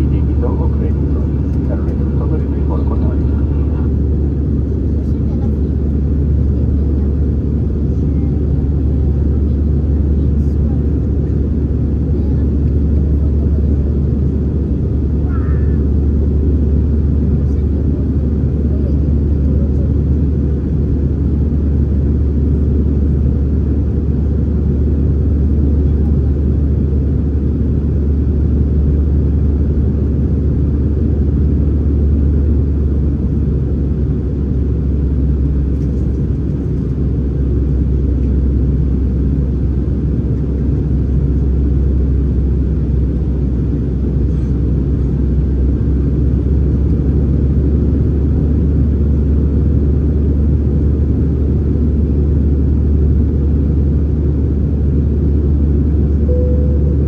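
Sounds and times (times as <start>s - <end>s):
jet engine rumble in cabin: 0.0s - 57.0s.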